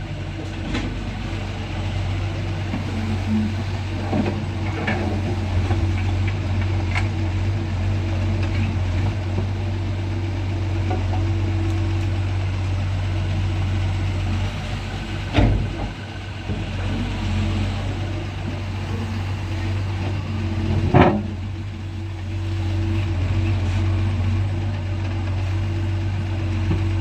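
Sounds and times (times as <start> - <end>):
excavator diesel engine droning: 0.0 - 27.0.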